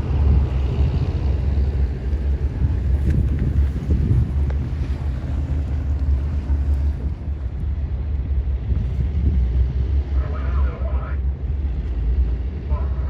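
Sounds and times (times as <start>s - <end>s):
wind buffeting microphone: 0.0s - 12.8s
boat engine rumbling: 0.0s - 13.0s.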